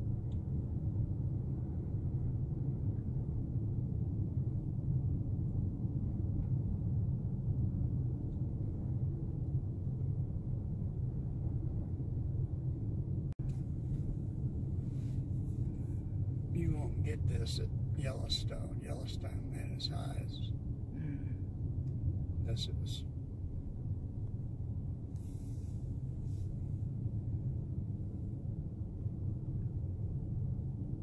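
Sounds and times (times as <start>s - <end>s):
car interior engine and tyre rumble: 0.0s - 31.0s.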